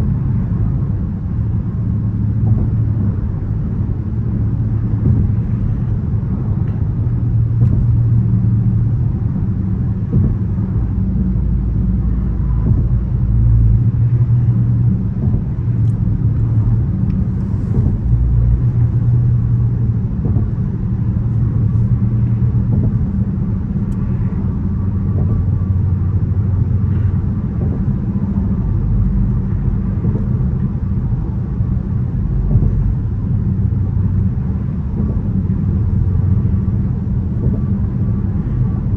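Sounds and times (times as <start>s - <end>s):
car engine running: 0.0s - 38.9s
road rumble: 0.0s - 38.9s.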